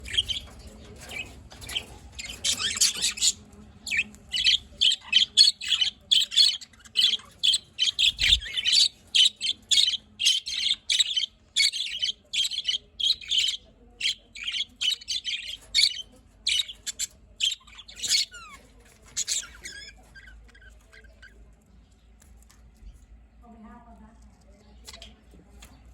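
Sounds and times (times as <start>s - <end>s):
budgerigars chirping: 0.0s - 21.4s.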